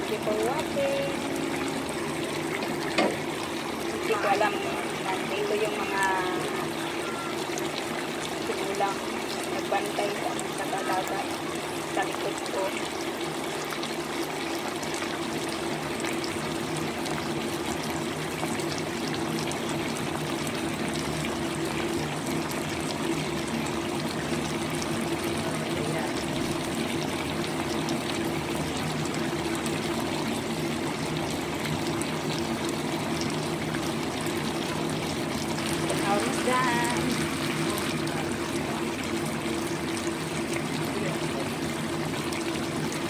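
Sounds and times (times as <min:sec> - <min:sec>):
chicken wings sizzling in a wok: 0:00.0 - 0:43.0.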